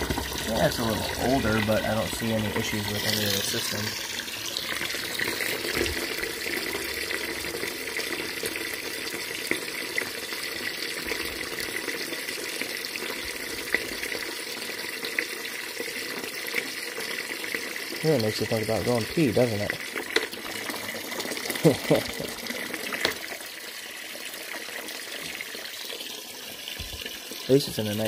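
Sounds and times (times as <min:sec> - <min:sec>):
hose water splashing into bucket: 0:00.0 - 0:28.0.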